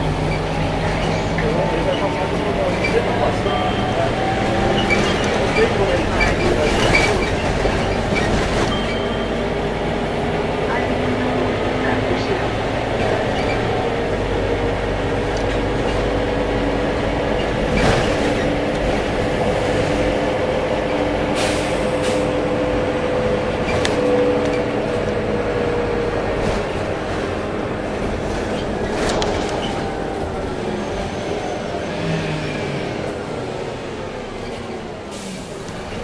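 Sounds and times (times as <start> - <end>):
bus engine running: 0.0 - 36.0.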